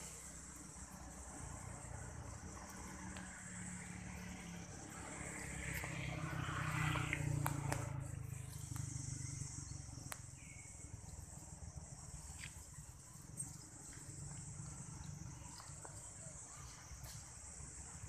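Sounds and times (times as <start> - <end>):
high-pitched insect drone: 0.0 - 18.0
vehicle engine rumble: 0.0 - 18.0.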